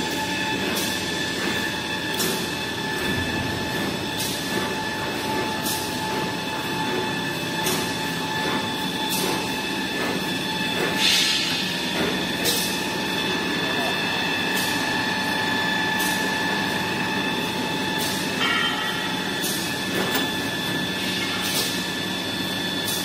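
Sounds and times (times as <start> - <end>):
machinery humming: 0.0 - 23.0.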